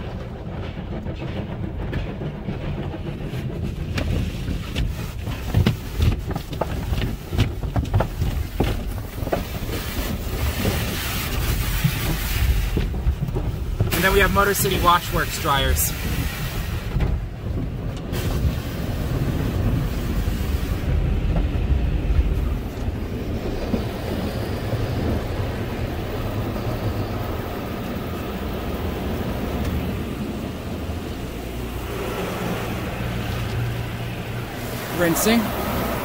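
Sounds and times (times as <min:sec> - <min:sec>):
car wash equipment rumbling: 0:00.0 - 0:36.0.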